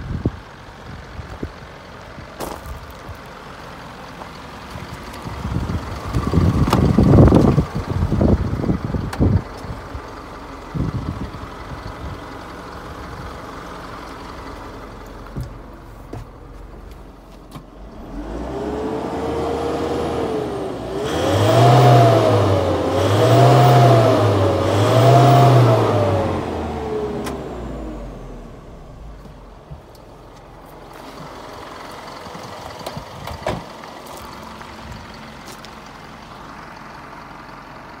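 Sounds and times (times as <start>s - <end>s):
truck engine idling and revving: 0.0s - 38.0s.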